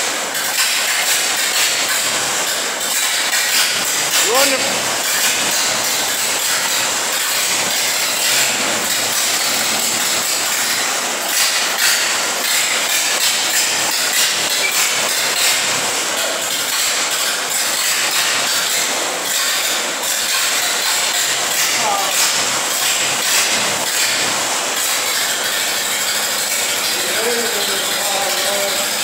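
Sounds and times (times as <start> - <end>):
truck engine running: 2.2 - 29.0.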